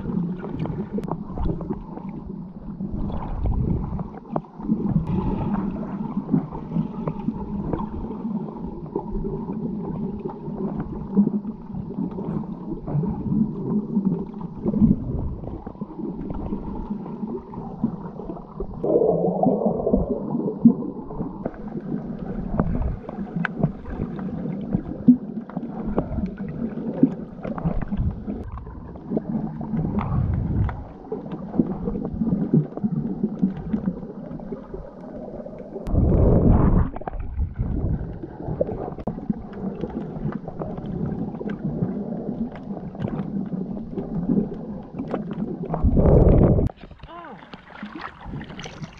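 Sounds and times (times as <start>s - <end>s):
underwater gurgling and sloshing: 0.0s - 48.9s.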